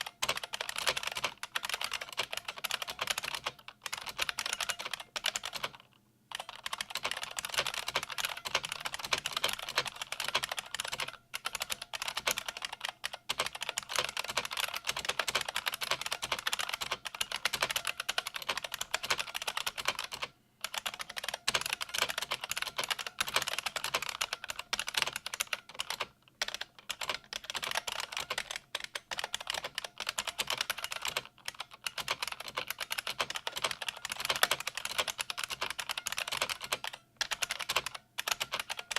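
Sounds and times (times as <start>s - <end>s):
fast clicky keyboard typing: 0.0s - 38.9s.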